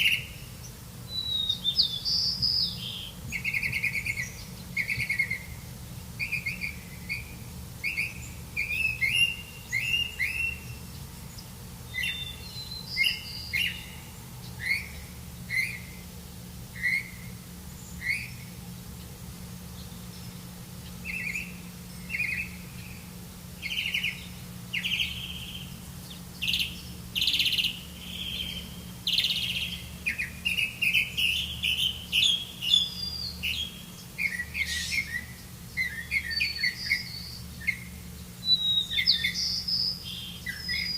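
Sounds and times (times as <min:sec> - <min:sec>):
small birds chirping: 0:00.0 - 0:40.9
steady low hum: 0:00.0 - 0:40.9.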